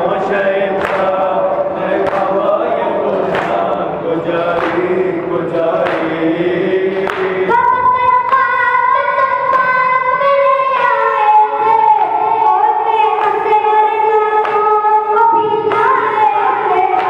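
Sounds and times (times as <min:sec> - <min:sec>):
boy singing lament into microphone: 0:00.0 - 0:17.0.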